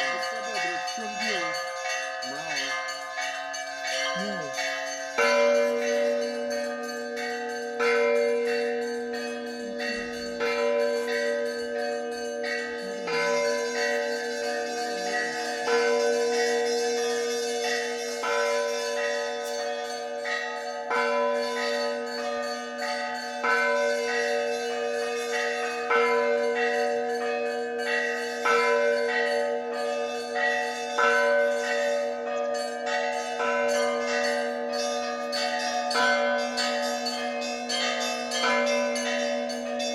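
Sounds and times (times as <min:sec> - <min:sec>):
deep tones of large bells: 0:00.0 - 0:39.9
small high bells striking: 0:00.0 - 0:39.9.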